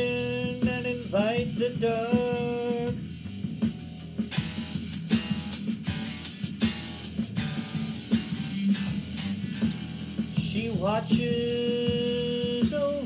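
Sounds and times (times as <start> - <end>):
electric guitar strummed and picked: 0.0 - 13.0.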